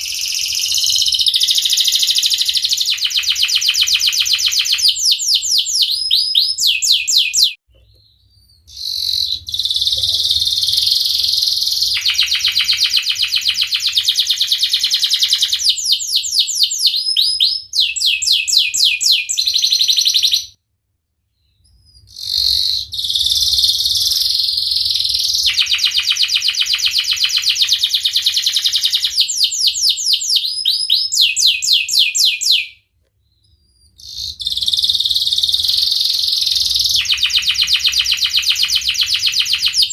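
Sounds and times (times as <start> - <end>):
canary singing trills: 0.0 - 20.6, 21.4 - 39.9.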